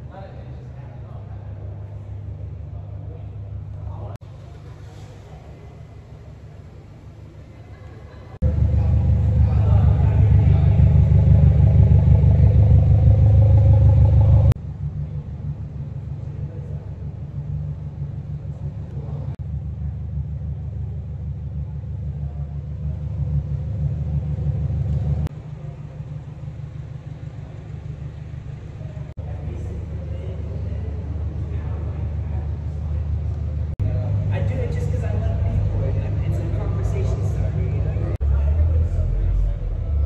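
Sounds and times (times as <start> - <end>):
car engines idling: 0.0 - 40.0.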